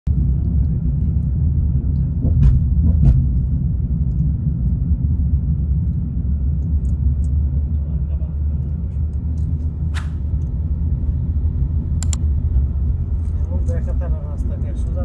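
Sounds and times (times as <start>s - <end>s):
car driving on highway: 0.1s - 15.0s.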